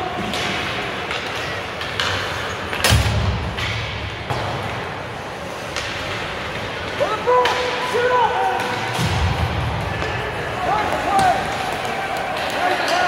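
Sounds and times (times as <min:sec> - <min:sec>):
hockey sticks clicking on ice: 0:00.1 - 0:04.8, 0:05.5 - 0:09.2, 0:09.9 - 0:13.0.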